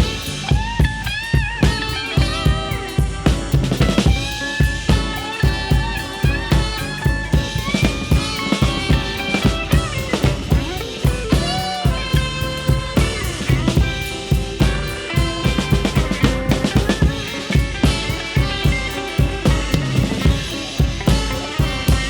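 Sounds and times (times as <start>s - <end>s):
drum kit steady beat: 0.0s - 22.0s
lead instrument bending notes: 0.0s - 22.0s.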